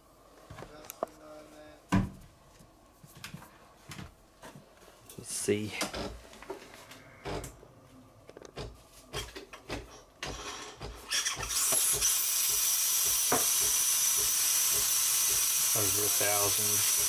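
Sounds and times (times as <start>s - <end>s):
cooling fans hissing: 0.0s - 9.1s, 9.9s - 17.0s.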